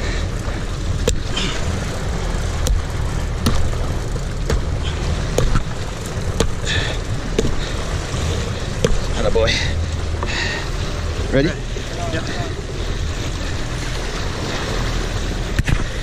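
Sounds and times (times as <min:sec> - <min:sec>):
boat engine rumble: 0:00.0 - 0:16.0
sea waves: 0:00.0 - 0:16.0
wind: 0:00.0 - 0:16.0.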